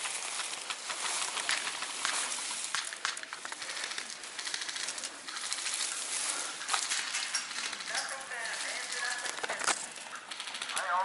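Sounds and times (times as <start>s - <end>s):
grass and brush rustling: 0.0s - 11.0s.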